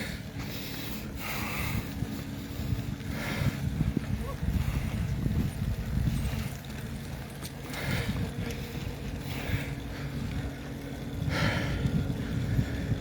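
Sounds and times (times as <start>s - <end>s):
vehicle engine rumble: 0.0s - 13.0s
wind buffeting microphone: 0.0s - 13.0s.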